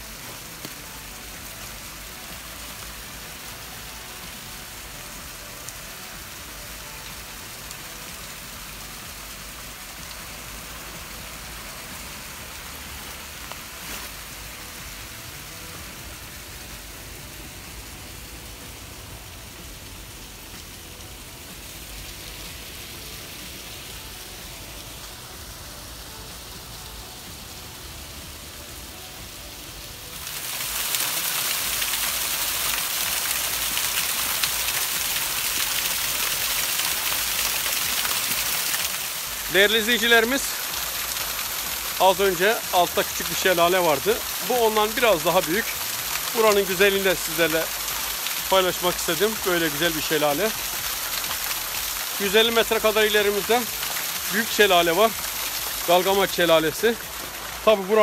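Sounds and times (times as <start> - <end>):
waterfall splashing: 0.0 - 58.0.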